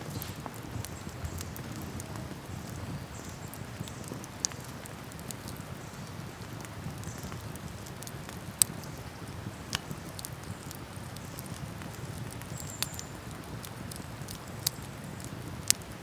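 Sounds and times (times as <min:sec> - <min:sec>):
campfire crackling: 0:00.0 - 0:16.0
fire popping: 0:00.0 - 0:16.0.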